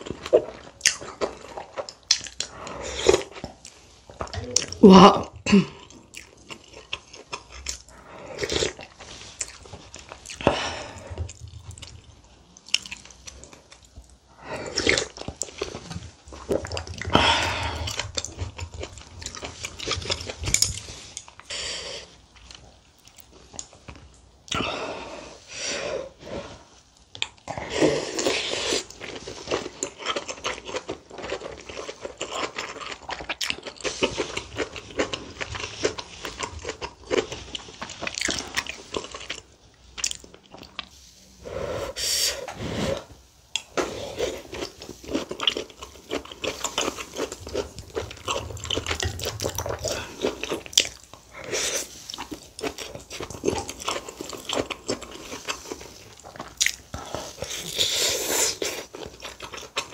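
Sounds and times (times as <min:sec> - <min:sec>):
person chewing with wet smacking: 0:00.0 - 0:24.7, 0:26.7 - 0:41.0, 0:43.5 - 0:59.9.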